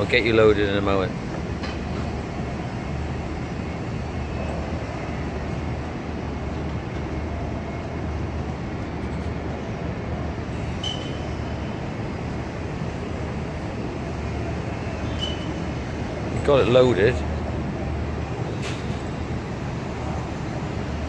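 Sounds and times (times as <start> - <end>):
outdoor noise: 0.0 - 21.0.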